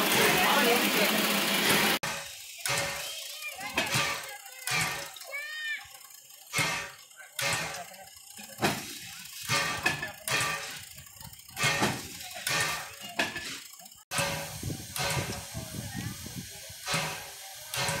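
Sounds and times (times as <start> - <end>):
steam locomotive puffing: 0.0 - 18.0.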